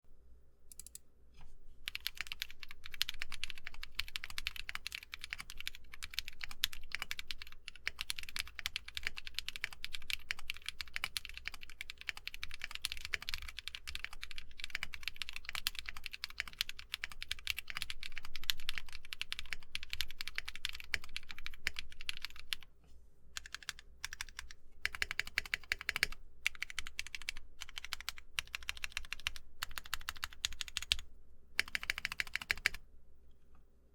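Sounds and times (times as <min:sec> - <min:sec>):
mechanical keyboard typing: 0:01.9 - 0:22.6, 0:23.4 - 0:31.0, 0:31.6 - 0:32.8.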